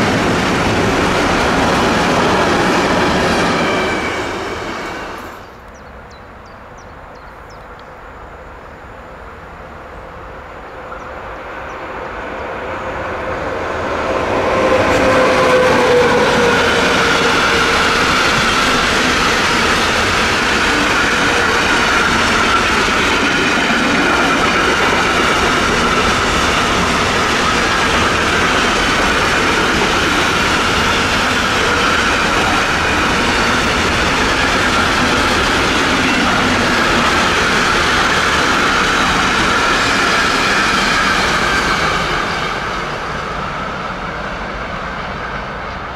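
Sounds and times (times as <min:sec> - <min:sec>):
freight wagons rumbling on rails: 0:00.0 - 0:05.8, 0:13.9 - 0:45.9
electric locomotive passing: 0:00.0 - 0:45.9.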